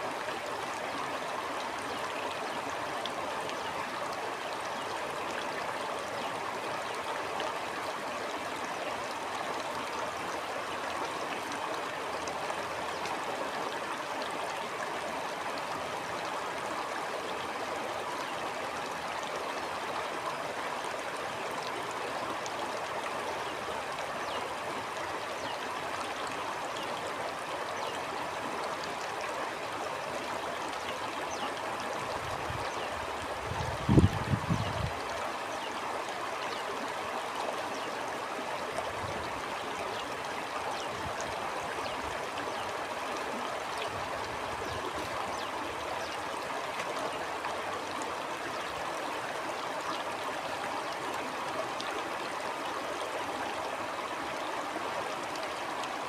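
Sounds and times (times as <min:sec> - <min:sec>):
stream babbling: 0:00.0 - 0:56.0.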